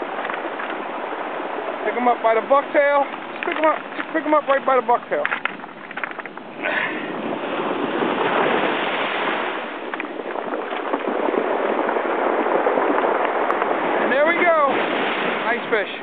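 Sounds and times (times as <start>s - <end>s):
surf washing over cobbles: 0.0s - 16.0s.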